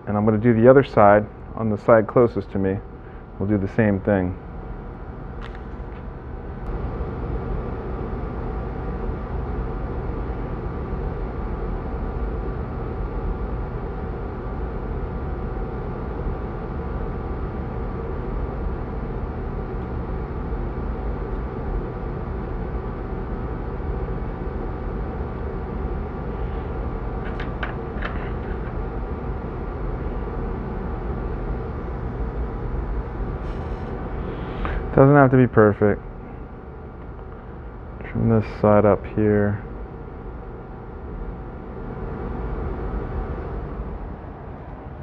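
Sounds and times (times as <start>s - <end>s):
mechanical drone: 0.0s - 45.0s.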